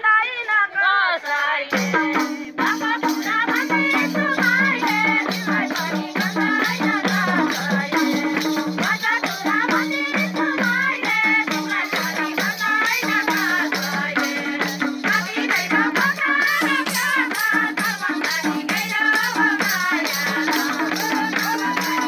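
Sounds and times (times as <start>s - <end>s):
women singing folk song: 0.0s - 22.0s
tambourine jingles: 1.2s - 22.0s.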